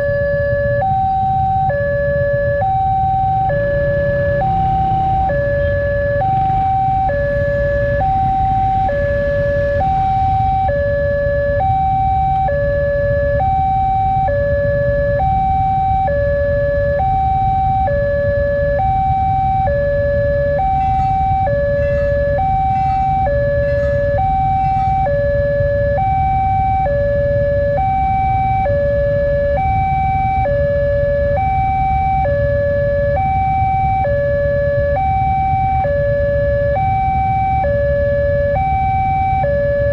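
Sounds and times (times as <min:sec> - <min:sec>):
two-tone level crossing alarm: 0:00.0 - 0:39.9.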